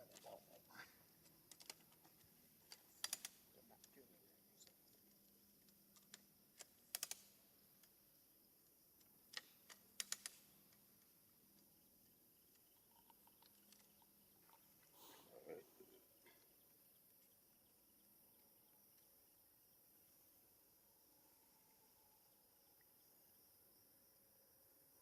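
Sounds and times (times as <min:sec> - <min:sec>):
faint background hiss: 0:00.0 - 0:25.0.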